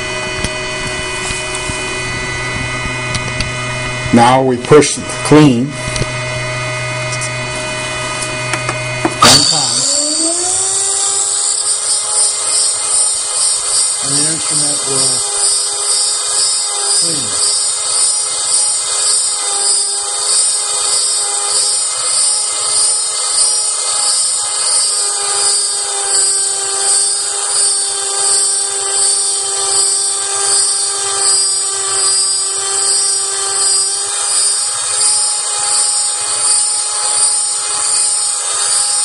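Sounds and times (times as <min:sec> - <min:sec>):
emulsifier motor high whine: 0:00.0 - 0:39.0.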